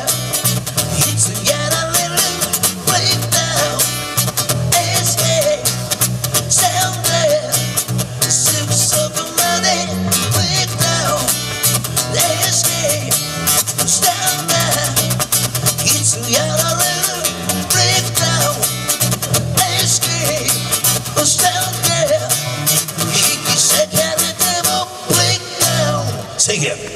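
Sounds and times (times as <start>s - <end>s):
strummed acoustic guitar: 0.0s - 26.4s
electric bass: 0.0s - 26.5s
man singing into a microphone: 0.0s - 26.9s.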